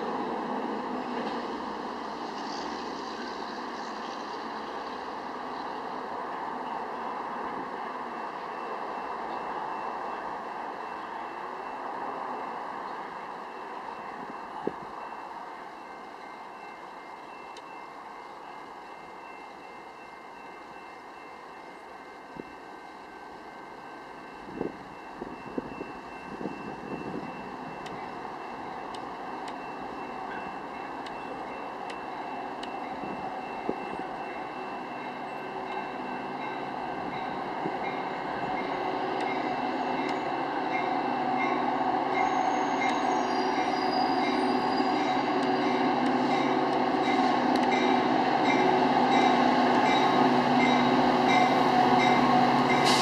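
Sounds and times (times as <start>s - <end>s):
distant train rumble: 0.0s - 53.0s.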